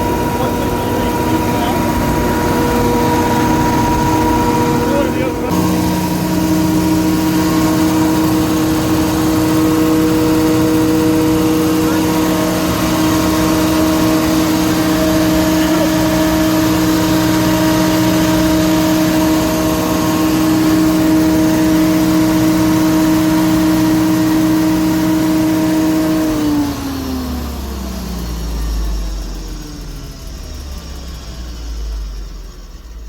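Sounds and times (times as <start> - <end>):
engine spinning down: 0.0 - 33.0
generator engine running: 0.0 - 33.0.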